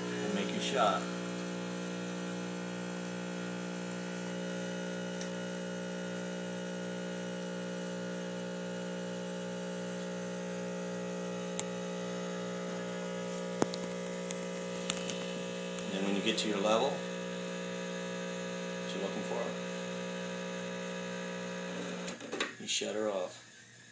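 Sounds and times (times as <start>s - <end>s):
espresso machine pump humming: 0.0s - 22.5s.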